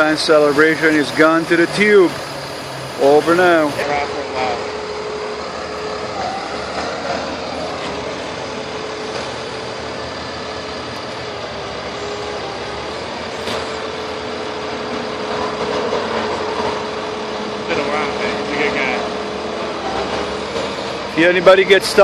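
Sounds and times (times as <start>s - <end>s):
heavy truck engine running: 0.0s - 22.0s.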